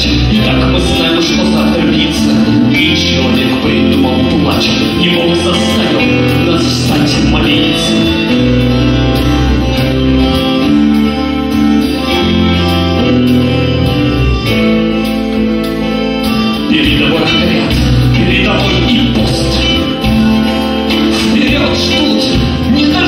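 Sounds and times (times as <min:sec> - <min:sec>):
accordion: 0:00.0 - 0:23.0
live rock band playing: 0:00.0 - 0:23.0.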